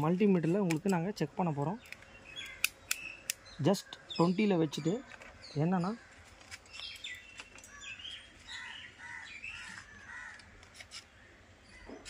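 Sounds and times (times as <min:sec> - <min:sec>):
bird calling: 0:01.5 - 0:12.0.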